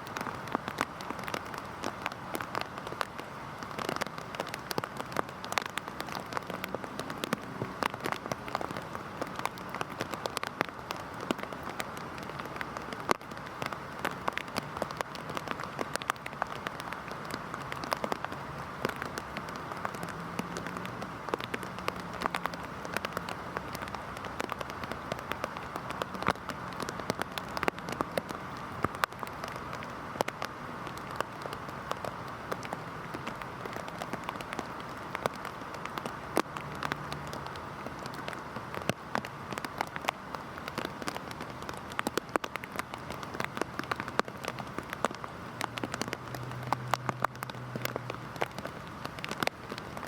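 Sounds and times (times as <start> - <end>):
close raindrop impacts ticking: 0.0 - 50.0
heavy rain falling: 0.0 - 50.0.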